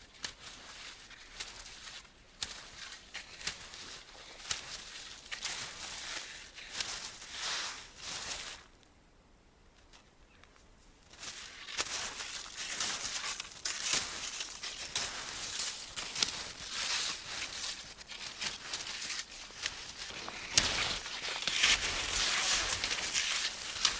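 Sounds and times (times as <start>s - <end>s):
skis crunching and swishing on snow: 0.1s - 8.7s, 11.1s - 23.9s.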